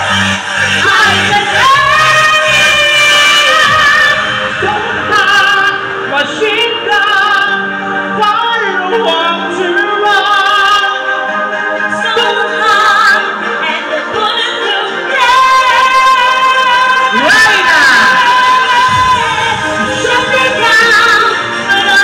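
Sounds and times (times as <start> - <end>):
woman singing with backing music: 0.0 - 22.0.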